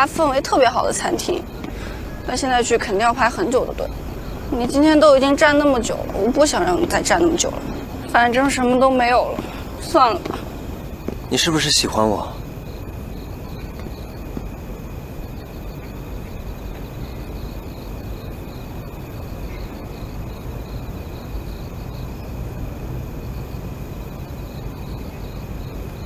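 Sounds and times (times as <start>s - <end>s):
crickets chirping: 0.0s - 26.0s
steady low rumble: 0.0s - 26.0s.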